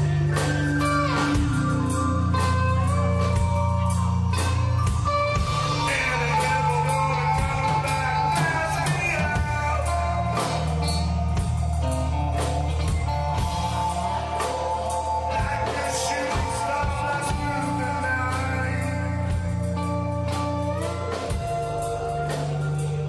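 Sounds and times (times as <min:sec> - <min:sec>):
lap steel guitar notes: 0:00.0 - 0:23.0
live rock band jamming: 0:00.0 - 0:23.0
person singing: 0:00.0 - 0:23.0.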